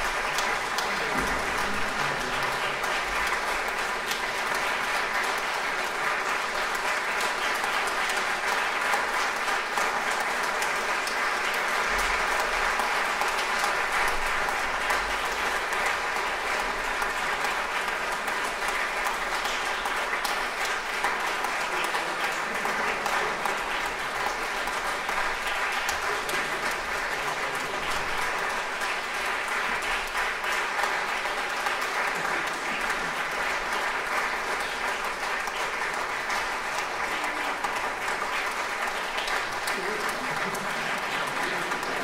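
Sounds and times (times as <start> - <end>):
audience applauding: 0.0 - 42.0.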